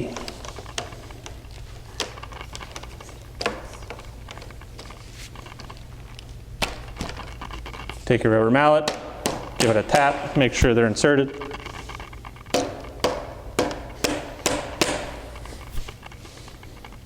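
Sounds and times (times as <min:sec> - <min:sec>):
plastic pipe parts clicking and knocking: 0:00.0 - 0:08.1, 0:08.8 - 0:17.0
steady low hum: 0:00.0 - 0:17.0.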